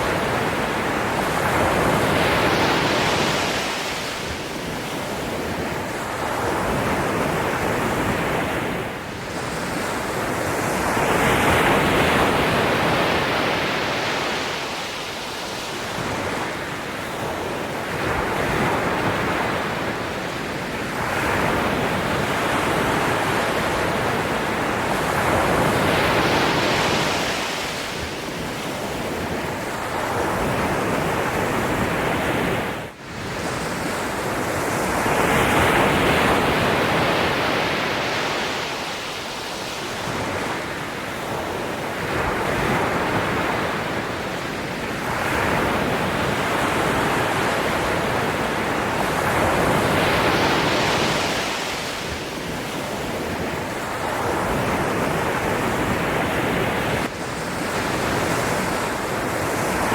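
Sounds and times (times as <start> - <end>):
sea waves surging and washing back: 0.0 - 59.9.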